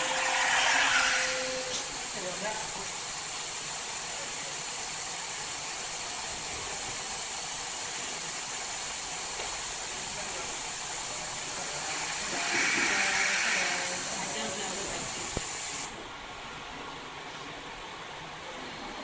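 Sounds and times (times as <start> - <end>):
plasma cutter air hiss: 0.0 - 16.0.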